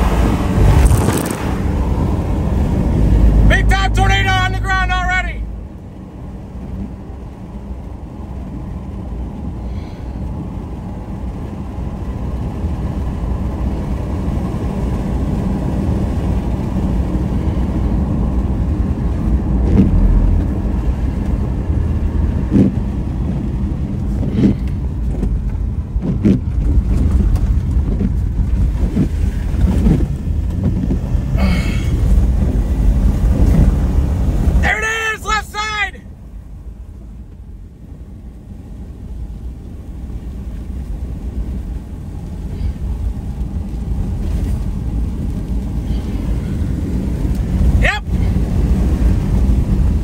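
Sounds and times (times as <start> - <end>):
engine and tyre rumble: 0.0 - 50.0.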